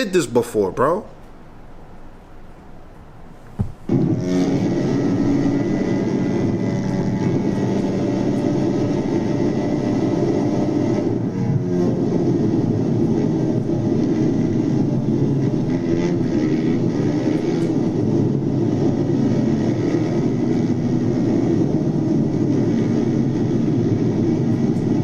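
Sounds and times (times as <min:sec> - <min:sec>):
loud engine drone: 0:03.9 - 0:25.0.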